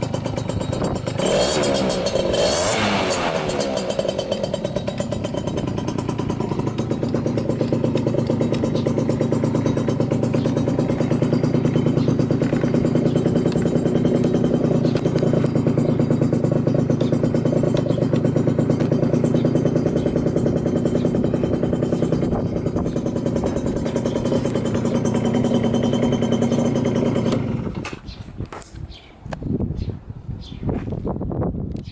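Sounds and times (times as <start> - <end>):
scooter engine running: 0.0 - 28.6.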